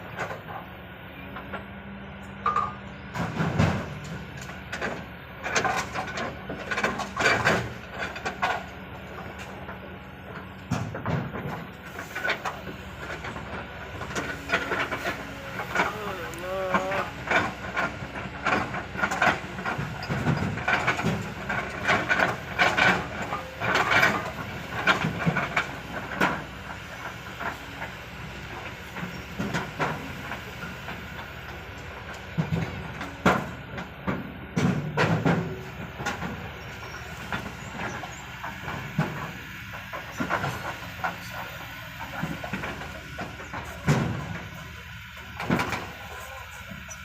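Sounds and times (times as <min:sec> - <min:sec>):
heavy machinery running: 0:00.0 - 0:47.0.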